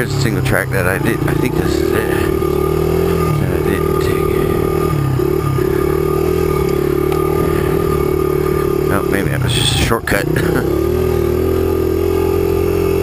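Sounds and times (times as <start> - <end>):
motorcycle engine at steady throttle: 0.0 - 13.0.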